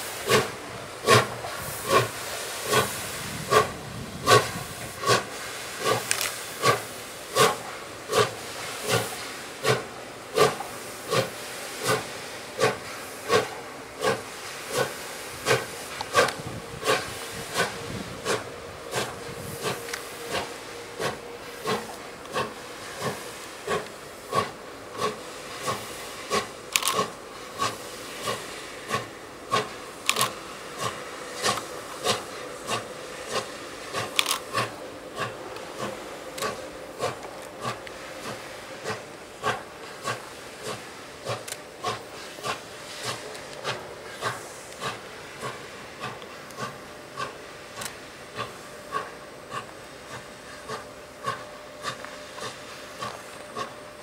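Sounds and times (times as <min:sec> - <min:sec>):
steady steam hiss: 0:00.0 - 0:54.0
steam locomotive exhaust chuffing: 0:00.0 - 0:54.0.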